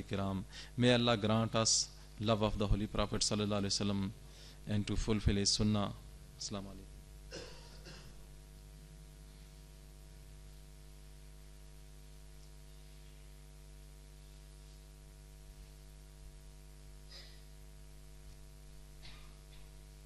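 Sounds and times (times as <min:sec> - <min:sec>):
low mains hum: 0:00.0 - 0:20.0.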